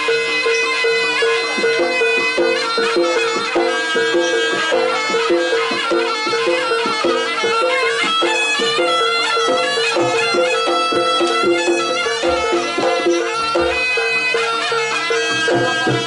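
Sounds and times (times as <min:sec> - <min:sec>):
repeating pitched percussion notes: 0:00.0 - 0:16.0
drum strokes: 0:00.6 - 0:16.0.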